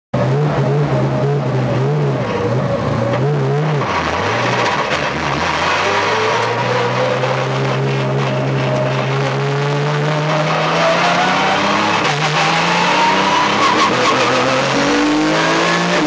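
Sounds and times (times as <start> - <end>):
race car engine revving: 0.2 - 16.0.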